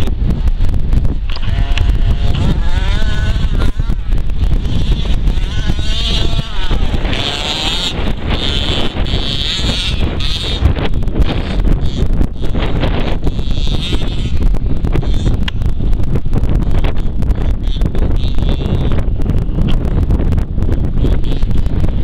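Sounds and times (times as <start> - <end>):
wind noise on microphone: 0.0 - 22.0
toy truck engine revving: 1.3 - 15.9, 16.6 - 20.0, 21.0 - 21.8.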